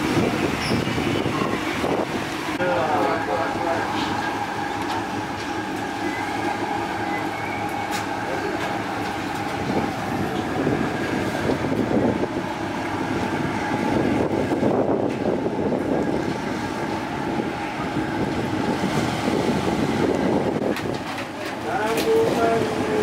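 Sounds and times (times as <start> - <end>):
wind buffeting microphone: 0.0 - 2.8, 4.0 - 23.0
ferry engine drone: 0.0 - 23.0
rushing water: 0.0 - 23.0.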